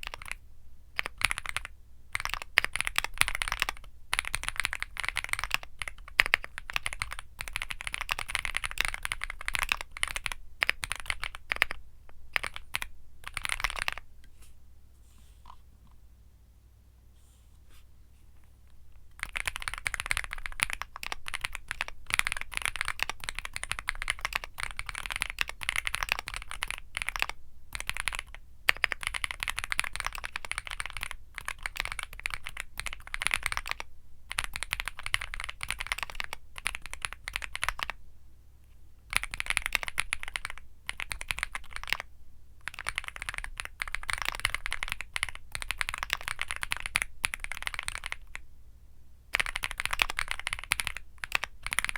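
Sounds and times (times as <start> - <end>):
mechanical keyboard typing: 0.0 - 0.4, 1.0 - 14.0, 19.1 - 38.0, 39.1 - 48.4, 49.3 - 51.9.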